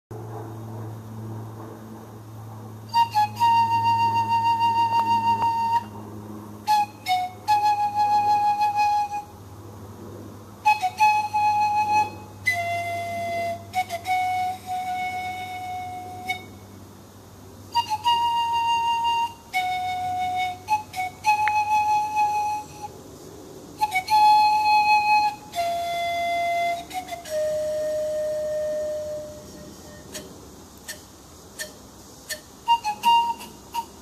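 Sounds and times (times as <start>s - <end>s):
pan pipes: 2.8s - 9.4s, 10.6s - 16.8s, 17.7s - 23.0s, 23.8s - 34.0s.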